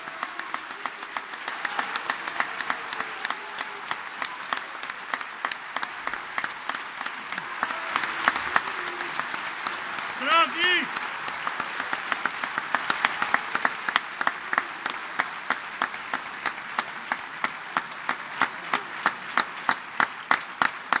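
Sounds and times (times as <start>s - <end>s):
audience applauding: 0.0s - 21.0s
loud close hand clapping: 0.0s - 21.0s.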